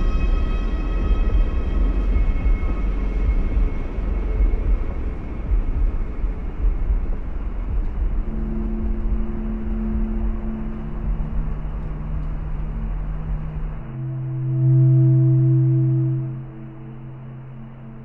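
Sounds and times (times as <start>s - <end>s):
heavy low rumble: 0.0s - 18.0s
steady low held tones: 0.0s - 18.0s.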